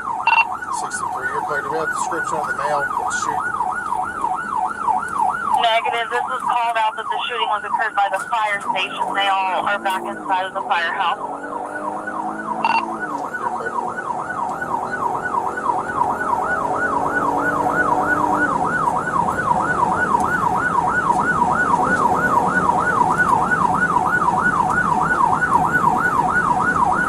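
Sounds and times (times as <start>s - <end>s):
police siren yelping: 0.0s - 27.0s
vehicle noise: 0.0s - 27.0s.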